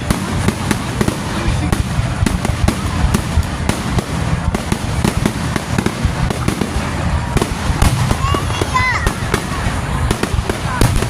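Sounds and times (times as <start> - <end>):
continuous low rumble: 0.0 - 11.0
fireworks bangs and crackles: 0.0 - 11.0.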